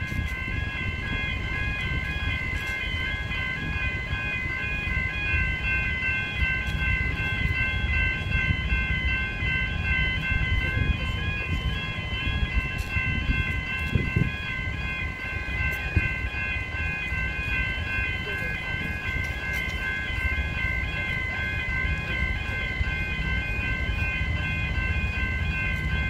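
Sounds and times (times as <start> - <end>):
level crossing bells ringing: 0.0 - 26.0
train rumbling past: 0.0 - 26.0.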